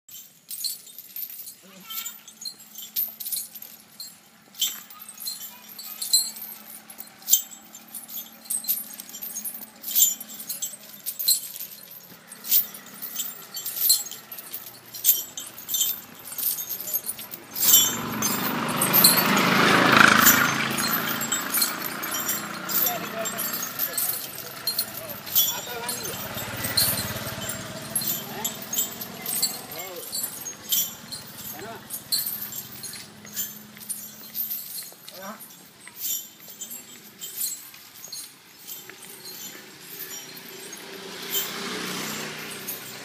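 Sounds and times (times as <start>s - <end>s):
metal chains clinking: 0.0s - 43.0s.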